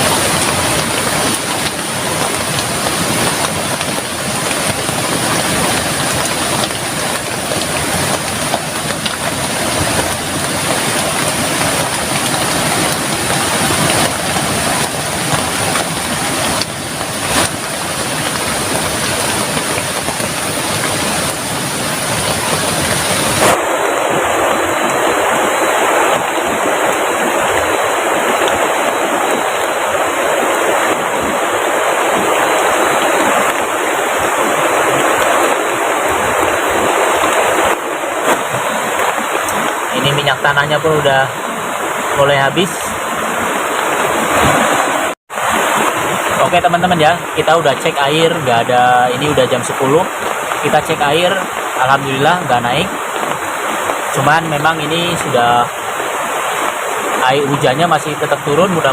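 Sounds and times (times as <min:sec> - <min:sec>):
heavy rain falling: 0:00.0 - 0:58.9
river water rushing: 0:00.0 - 0:58.9.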